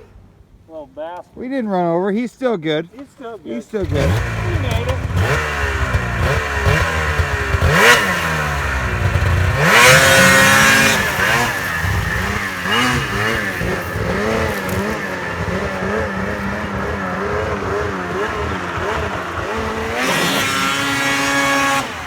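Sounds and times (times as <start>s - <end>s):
snowmobile engine revving: 3.5s - 22.0s.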